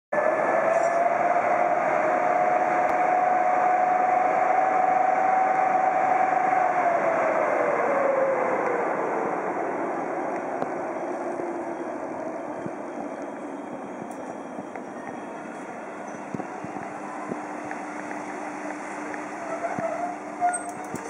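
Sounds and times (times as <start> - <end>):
locomotive whine: 0.1 - 21.0
electric locomotive running: 0.2 - 21.0.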